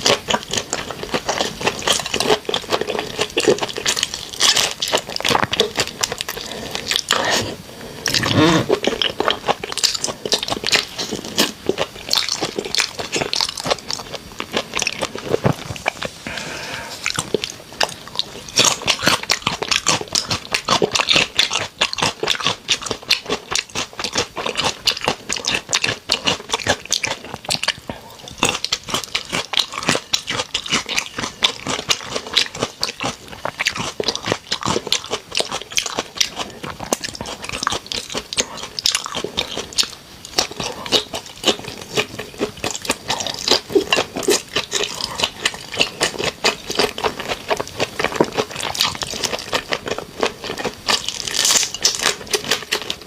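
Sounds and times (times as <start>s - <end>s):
wet biting and chewing: 0.0s - 53.0s.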